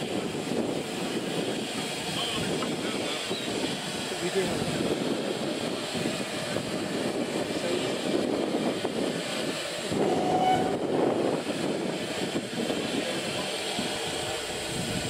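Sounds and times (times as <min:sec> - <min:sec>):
steam escaping from locomotive: 0:00.0 - 0:15.0.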